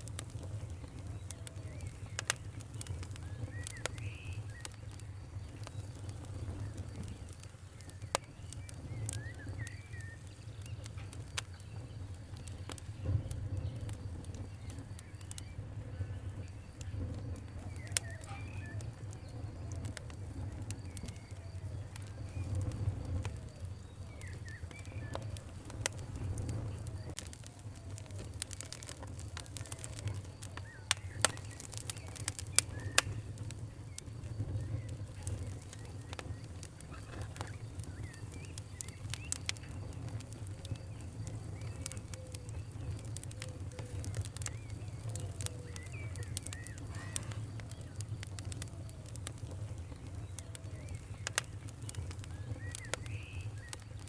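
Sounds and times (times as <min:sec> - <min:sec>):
fire crackling: 0:00.0 - 0:54.0
faint bird calls: 0:00.3 - 0:54.0.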